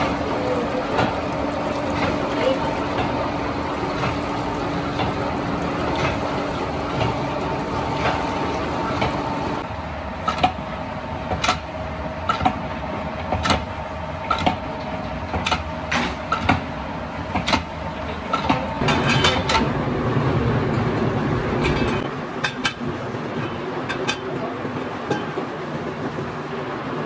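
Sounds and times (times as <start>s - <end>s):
factory machinery running: 0.0s - 27.0s.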